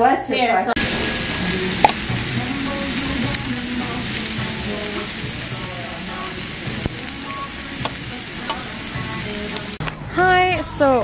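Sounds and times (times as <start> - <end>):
meat sizzling on griddle: 0.8 - 9.8.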